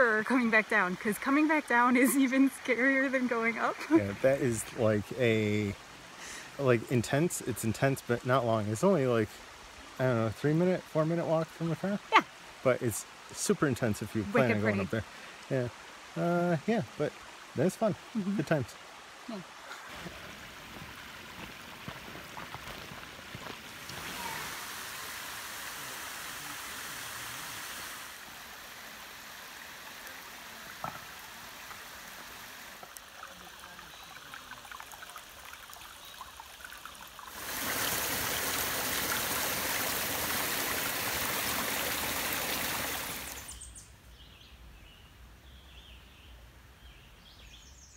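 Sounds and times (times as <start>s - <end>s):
rushing stream water: 0.0s - 44.0s.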